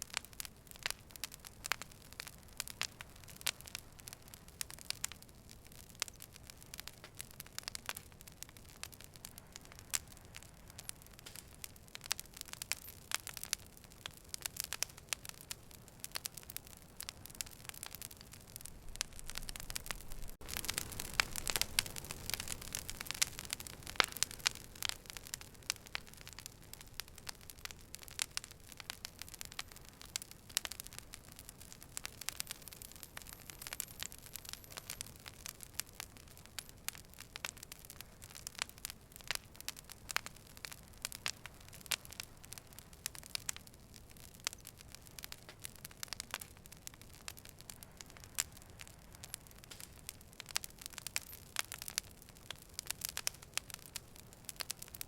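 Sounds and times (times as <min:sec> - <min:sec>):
fire low steady hiss: 0:00.0 - 0:55.0
wood fire crackling and popping: 0:00.0 - 0:55.0.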